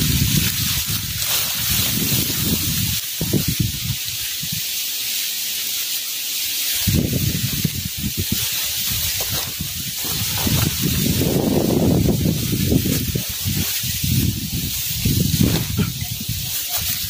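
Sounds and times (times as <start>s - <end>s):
strong wind rushing: 0.0s - 4.6s, 6.8s - 17.0s
wind buffeting microphone: 0.0s - 4.8s, 6.8s - 17.0s.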